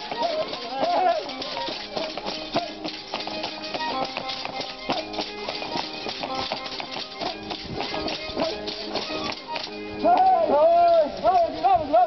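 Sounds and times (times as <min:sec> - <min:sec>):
folk dance music: 0:00.0 - 0:12.0.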